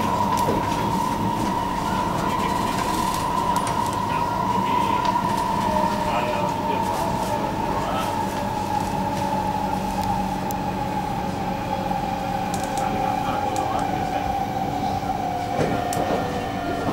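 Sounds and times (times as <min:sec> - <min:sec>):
electric traction motor whine: 0:00.0 - 0:16.9
train car rumbling: 0:00.0 - 0:16.9.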